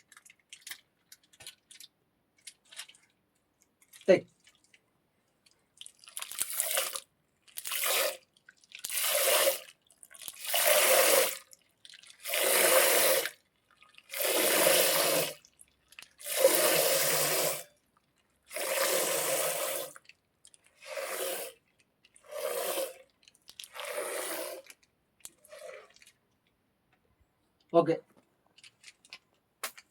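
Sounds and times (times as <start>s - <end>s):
milk squirting into container: 0.0s - 26.5s, 28.5s - 29.9s.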